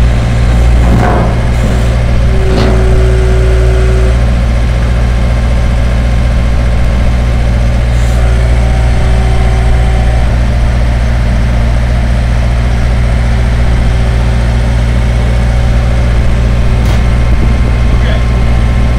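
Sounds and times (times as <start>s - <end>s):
loader engine running: 0.0s - 18.9s.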